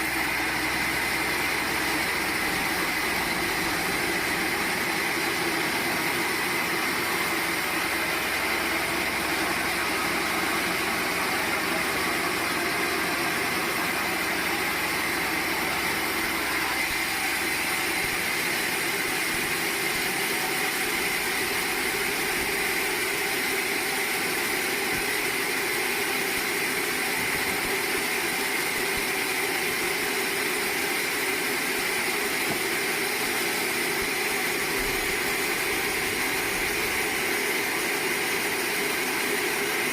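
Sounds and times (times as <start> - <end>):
sawmill machinery hum and whine: 0.0 - 39.9.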